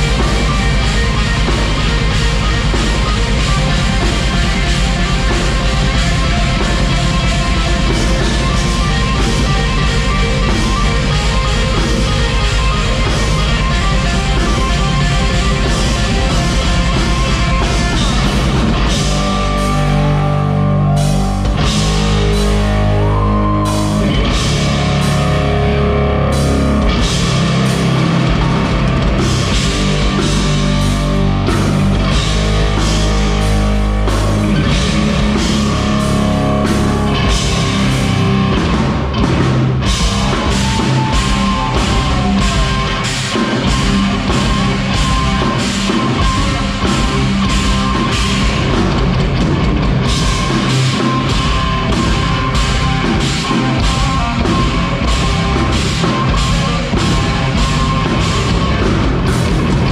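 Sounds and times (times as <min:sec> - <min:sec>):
bass guitar: 0:00.0 - 0:59.9
distorted electric guitars: 0:00.0 - 0:59.9
pounding drum kit: 0:00.0 - 0:59.9.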